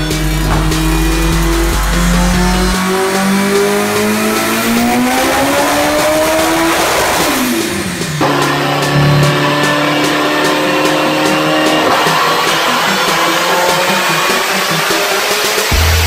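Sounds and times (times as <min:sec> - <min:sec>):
car engine revving under load: 0:00.0 - 0:16.0.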